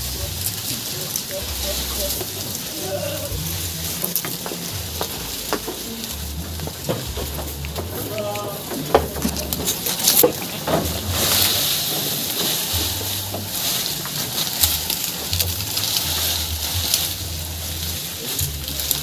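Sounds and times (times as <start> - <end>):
corn stalks rustling and crackling: 0.0 - 19.0.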